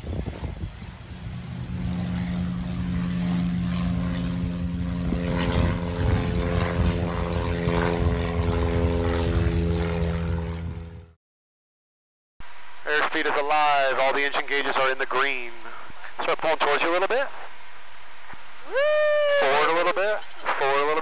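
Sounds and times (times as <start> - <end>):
propeller plane engine drone: 0.0 - 11.2, 12.4 - 21.0.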